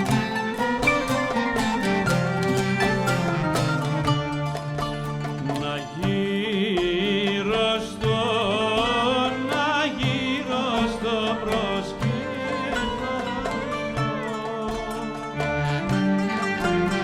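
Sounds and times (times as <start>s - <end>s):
plucked string accompaniment: 0.0s - 17.0s.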